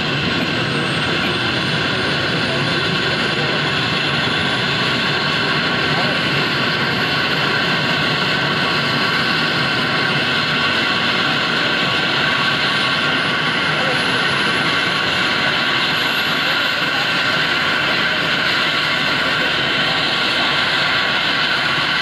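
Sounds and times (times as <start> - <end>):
helicopter turbine whine: 0.0 - 22.0.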